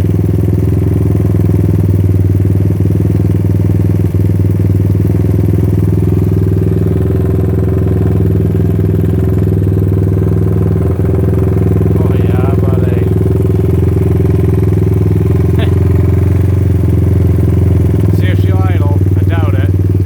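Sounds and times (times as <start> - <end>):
quad engine idling: 0.0 - 20.0.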